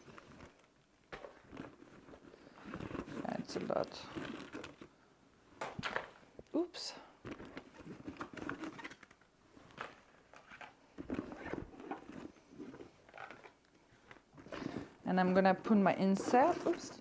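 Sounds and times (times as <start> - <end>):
rustling of canvas bag: 0.0 - 5.0, 7.2 - 17.0.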